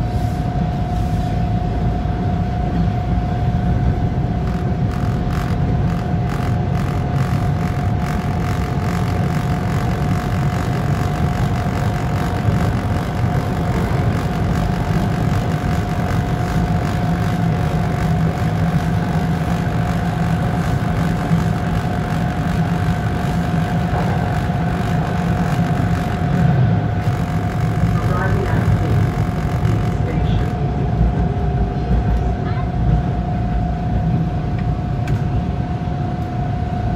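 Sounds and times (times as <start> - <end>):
thin steady whine: 0.0 - 36.9.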